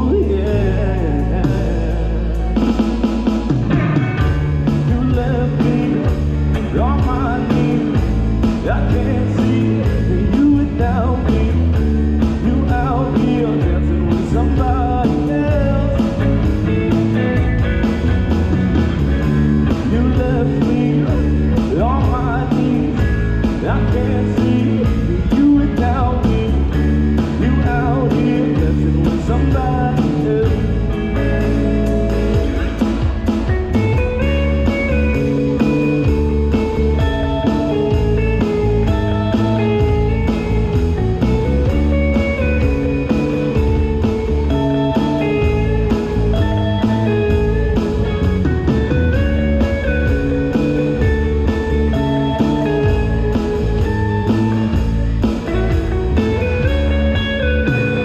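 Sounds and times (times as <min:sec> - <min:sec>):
lead guitar bending notes: 0:00.0 - 0:58.0
rock band playing instrumental: 0:00.0 - 0:58.0.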